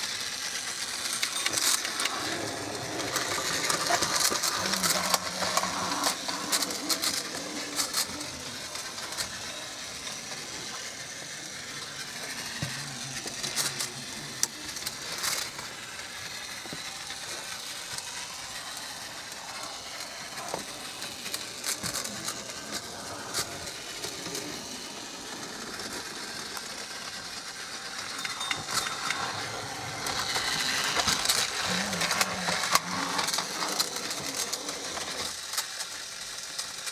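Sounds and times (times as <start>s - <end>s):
toy train motors whirring: 0.0s - 36.9s
wheels clicking on track: 0.0s - 36.9s.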